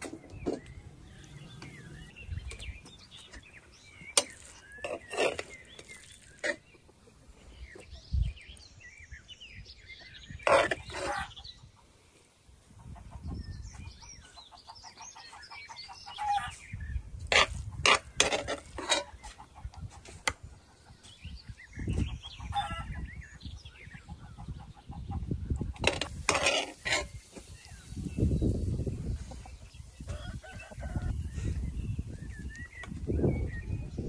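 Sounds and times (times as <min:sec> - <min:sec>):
chickens clucking: 0:00.0 - 0:08.1, 0:10.0 - 0:12.0, 0:12.6 - 0:34.0
small birds chirping: 0:00.0 - 0:34.0.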